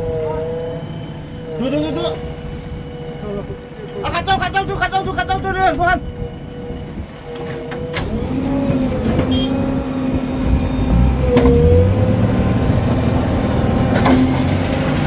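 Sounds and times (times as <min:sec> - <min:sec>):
heavy diesel engine revving: 0:00.0 - 0:15.0.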